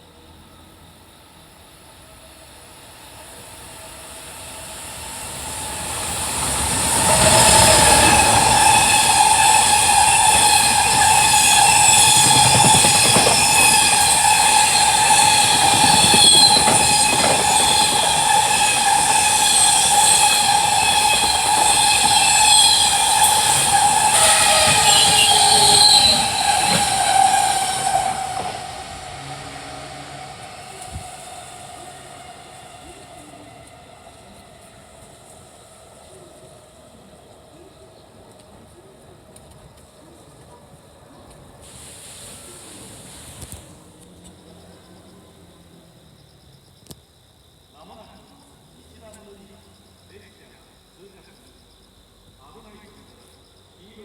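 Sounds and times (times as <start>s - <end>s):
freight train rolling by: 0.0s - 46.6s.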